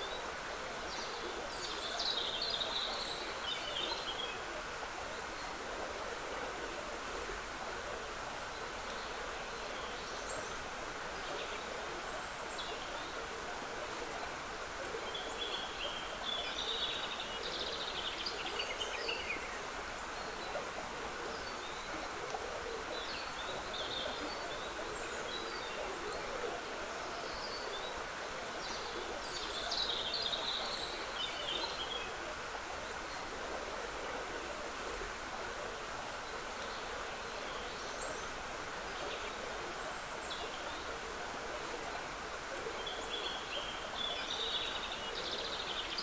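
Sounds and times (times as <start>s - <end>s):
woodland stream trickling: 0.0s - 46.0s.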